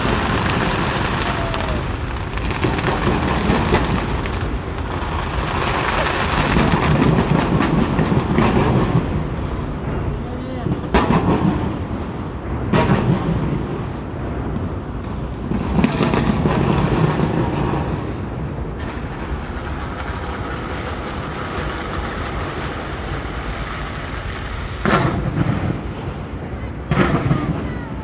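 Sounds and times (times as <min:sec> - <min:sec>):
fireworks booming: 0:00.0 - 0:28.0.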